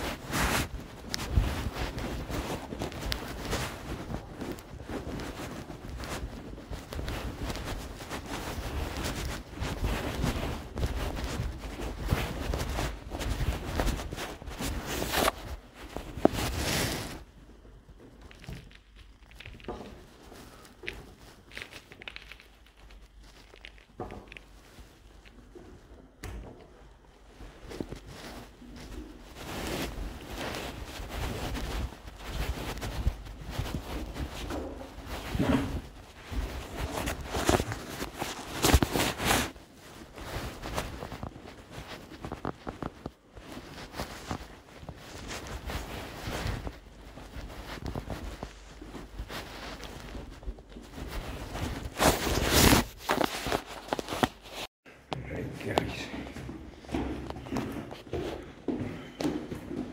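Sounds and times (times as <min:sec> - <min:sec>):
footsteps crunching over debris: 0:00.0 - 0:59.9
small scuffs and clicks: 0:00.0 - 0:59.9.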